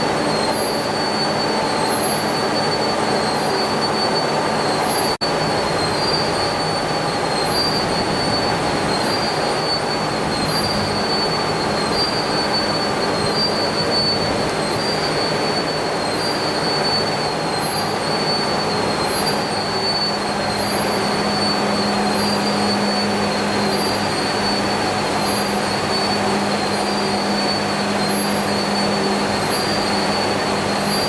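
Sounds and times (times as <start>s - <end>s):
machine metallic noise with whine: 0.0s - 31.0s.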